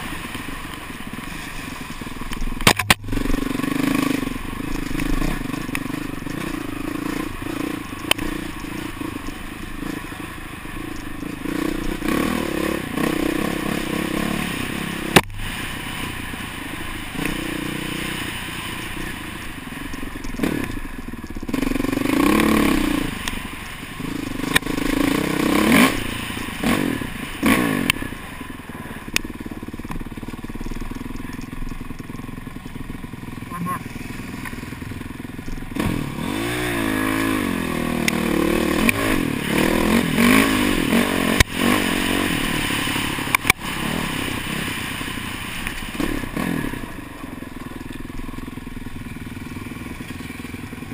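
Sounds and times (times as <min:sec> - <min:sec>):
dirt bike engine revving: 0:01.2 - 0:29.7, 0:33.3 - 0:47.4.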